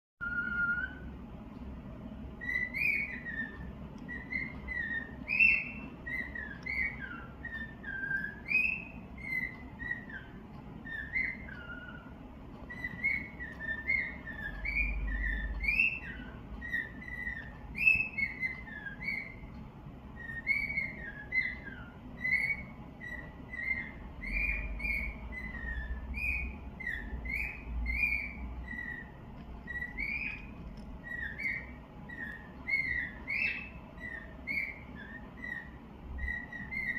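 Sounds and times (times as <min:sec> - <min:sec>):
cockatiel whistling: 0:00.2 - 0:01.2, 0:02.4 - 0:19.5, 0:20.1 - 0:36.9.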